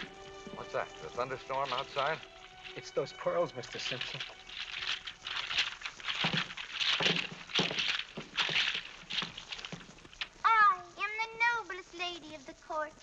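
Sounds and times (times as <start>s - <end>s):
necklace rattling against microphone: 0.0s - 10.4s.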